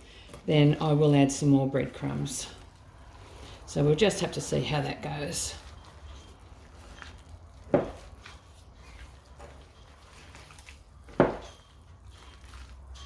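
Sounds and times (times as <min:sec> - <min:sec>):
soft squishing of mince: 0:00.0 - 0:13.0.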